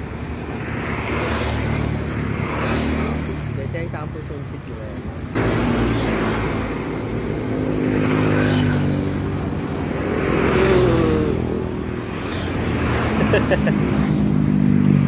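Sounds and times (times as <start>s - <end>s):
vehicles passing on road: 0.0s - 15.0s.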